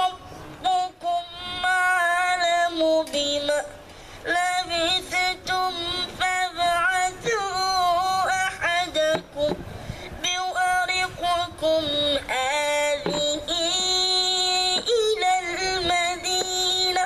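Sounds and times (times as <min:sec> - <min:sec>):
boy chanting melodic recitation: 0:00.0 - 0:17.0.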